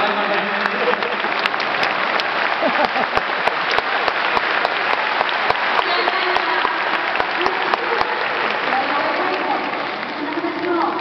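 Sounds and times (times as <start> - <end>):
stadium crowd applauding: 0.0 - 11.0.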